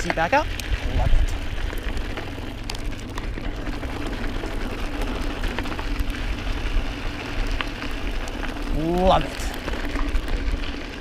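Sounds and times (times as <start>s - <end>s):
bike tyres rumbling on gravel: 0.0s - 11.0s
stones and bike rattling: 0.0s - 11.0s.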